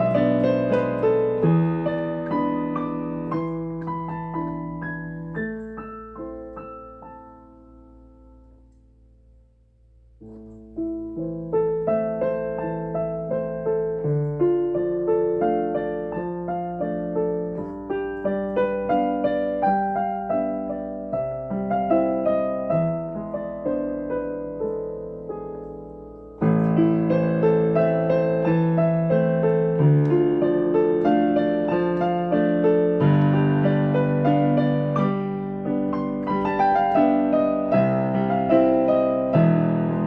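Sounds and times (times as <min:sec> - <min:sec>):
gentle piano music: 0:00.0 - 0:40.0.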